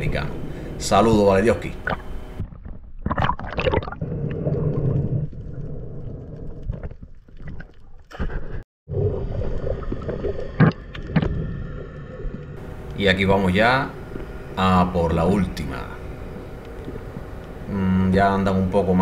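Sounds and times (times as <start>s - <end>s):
muffled underwater sloshing: 0.1s - 18.4s.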